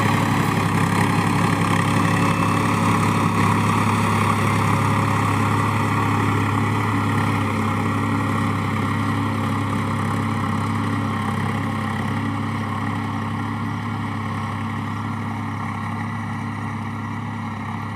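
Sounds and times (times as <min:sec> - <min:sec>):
farm machine engine droning: 0:00.0 - 0:17.9.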